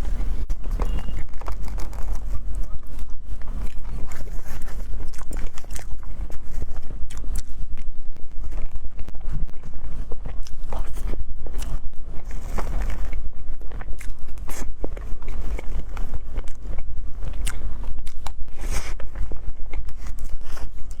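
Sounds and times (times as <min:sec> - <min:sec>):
constant low hum: 0:00.0 - 0:21.0
utensil and mouth clicks: 0:00.5 - 0:21.0.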